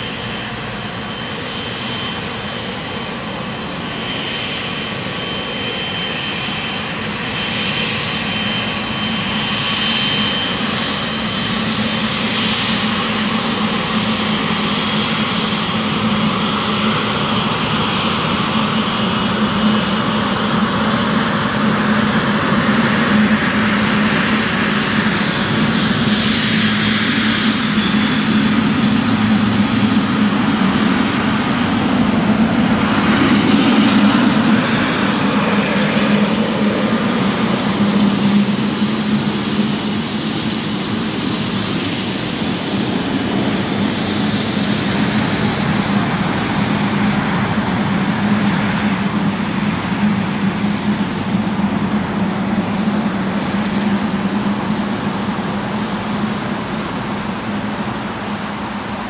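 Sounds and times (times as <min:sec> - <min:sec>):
jet engines humming and whining: 0:00.0 - 0:59.0.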